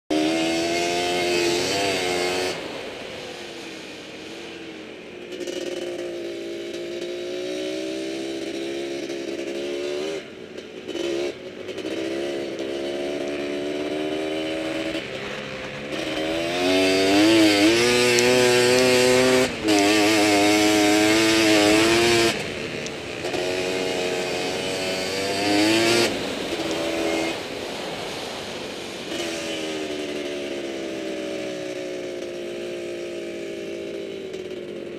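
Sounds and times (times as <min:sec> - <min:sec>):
quad engine revving: 0:00.1 - 0:34.9.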